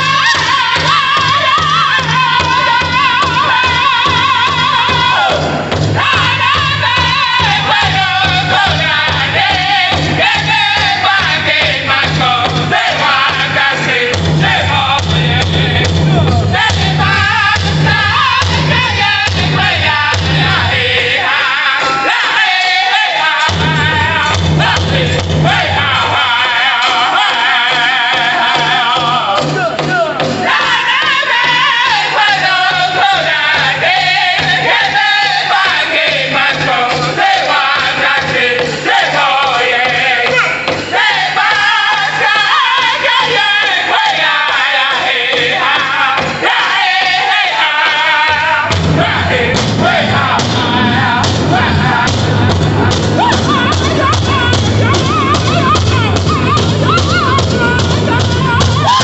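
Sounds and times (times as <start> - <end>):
group singing in unison: 0.0 - 59.0
large hide drum beat: 0.0 - 59.0.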